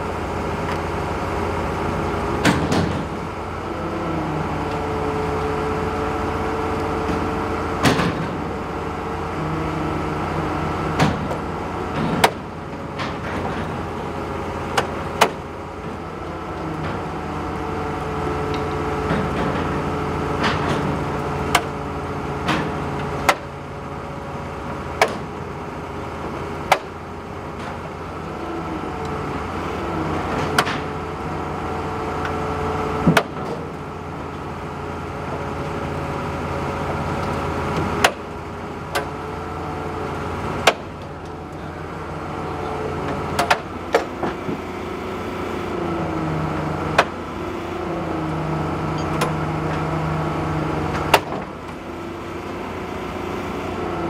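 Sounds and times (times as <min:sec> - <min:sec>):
heavy diesel crane engine: 0:00.0 - 0:54.0.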